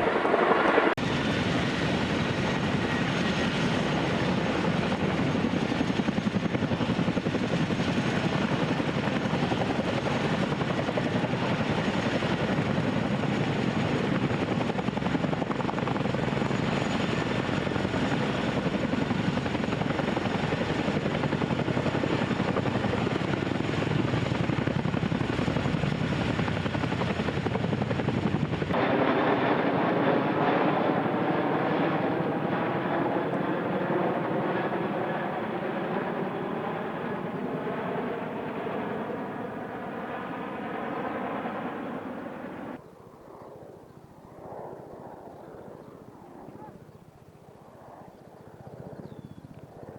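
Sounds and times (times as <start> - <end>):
helicopter rotors beating: 0.0 - 43.8.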